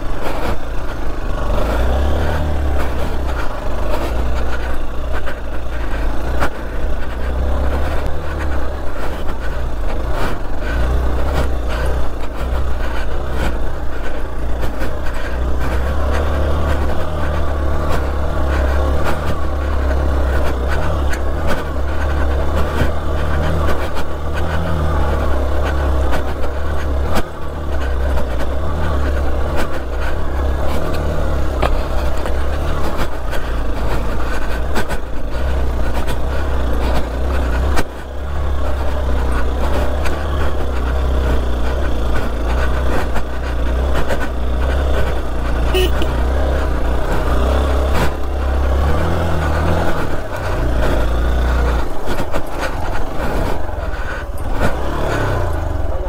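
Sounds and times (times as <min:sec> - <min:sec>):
knocks and rattles: 0:00.0 - 0:56.0
motorcycle engine running: 0:00.0 - 0:56.0.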